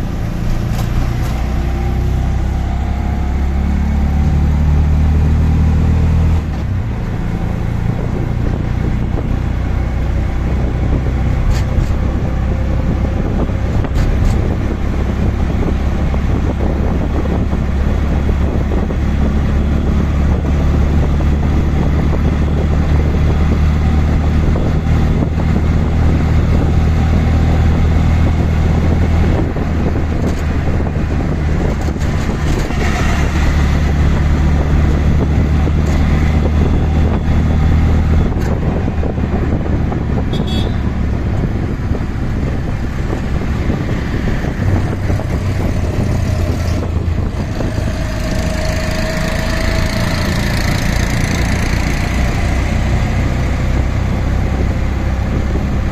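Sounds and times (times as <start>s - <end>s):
auto rickshaw engine running: 0.0s - 55.9s.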